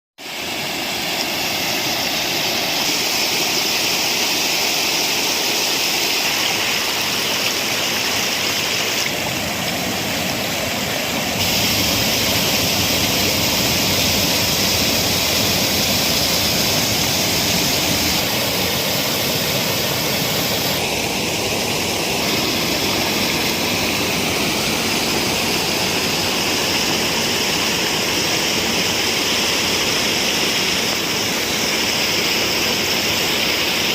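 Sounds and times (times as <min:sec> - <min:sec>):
water rushing: 0:00.2 - 0:33.9.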